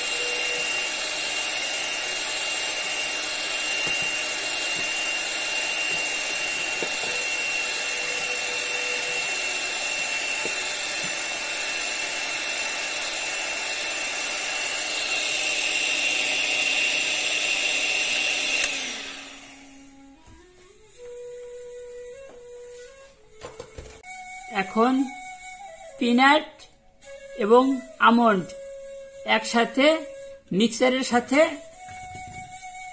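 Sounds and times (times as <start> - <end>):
electric hand mixer whining: 0.0 - 26.0, 31.0 - 32.9.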